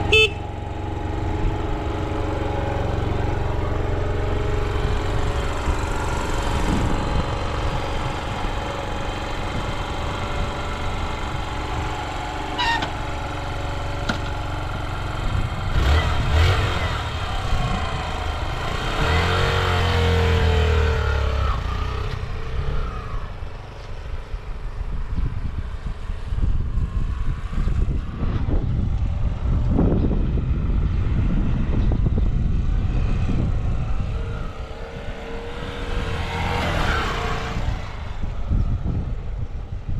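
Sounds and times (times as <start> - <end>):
motorcycle engine revving: 0.0 - 23.7, 25.2 - 39.9.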